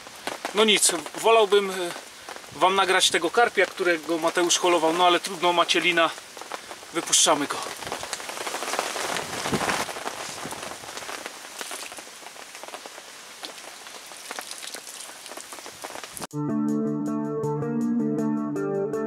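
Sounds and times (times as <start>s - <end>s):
steady rain falling: 0.0s - 16.3s.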